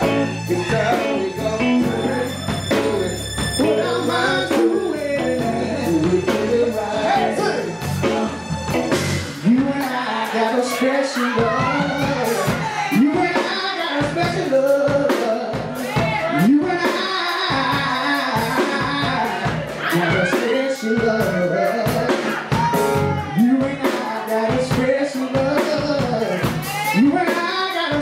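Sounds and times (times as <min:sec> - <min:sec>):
man singing into a microphone: 0:00.0 - 0:08.4, 0:09.4 - 0:28.0
drum kit beat: 0:00.0 - 0:28.0
live band playing: 0:00.0 - 0:28.0.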